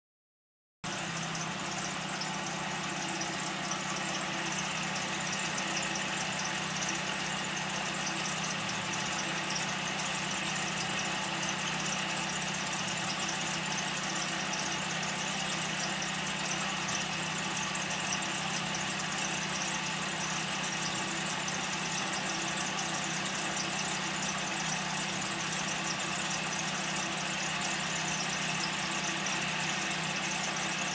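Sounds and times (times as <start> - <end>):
car engine idling: 0.8 - 30.9
clutch bearing squeal: 0.9 - 30.9.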